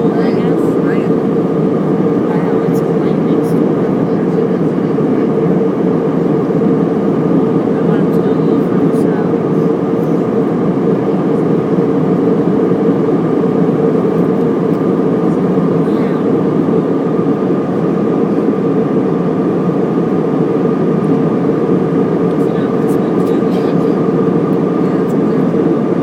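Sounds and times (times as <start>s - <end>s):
airliner cabin engine noise: 0.0s - 26.0s.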